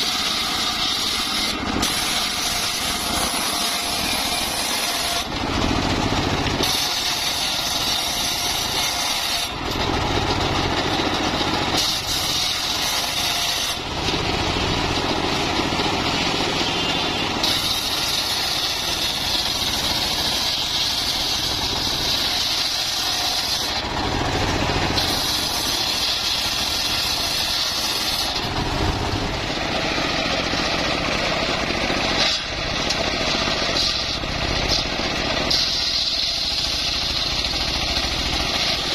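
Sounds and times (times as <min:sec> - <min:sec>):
circular sawmill engine and blade: 0:00.0 - 0:38.9.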